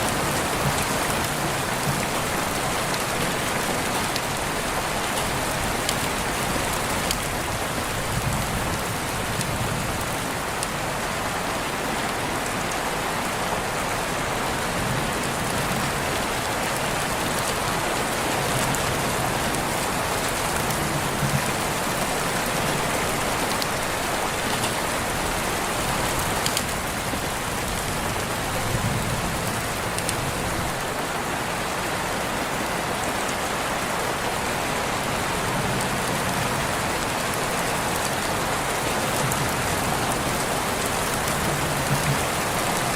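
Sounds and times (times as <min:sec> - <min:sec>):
raindrops pattering on surfaces: 0:00.0 - 0:42.9
steady rain falling: 0:00.0 - 0:42.9.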